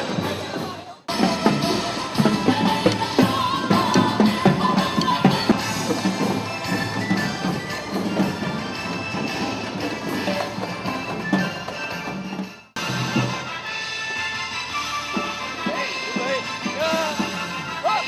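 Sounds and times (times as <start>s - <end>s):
music with drums: 0.0s - 18.0s.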